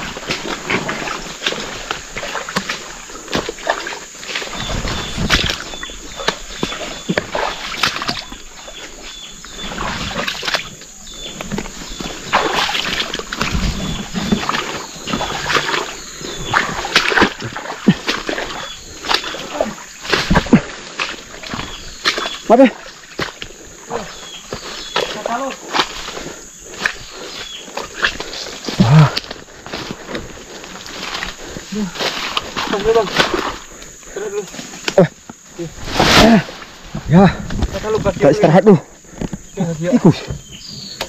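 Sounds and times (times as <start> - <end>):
water sloshing and splashing: 0.0 - 35.0
footsteps wading through mud: 0.0 - 38.4.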